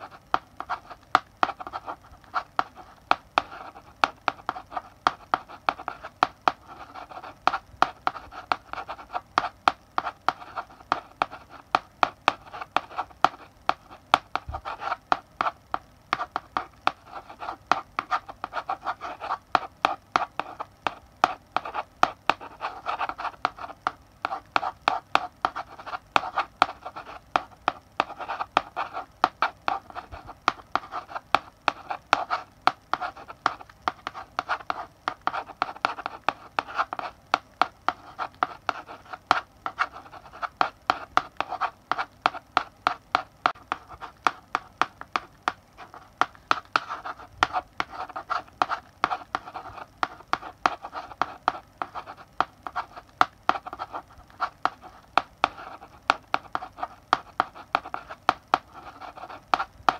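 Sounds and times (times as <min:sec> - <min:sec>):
chalk scratching on blackboard: 0:00.0 - 0:59.9
chalk tapping on blackboard: 0:00.0 - 0:59.9.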